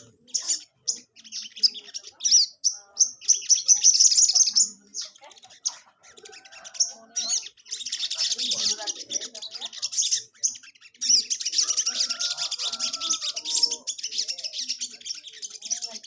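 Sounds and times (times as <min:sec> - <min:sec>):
songbird chirping and whistling: 0:00.0 - 0:16.0.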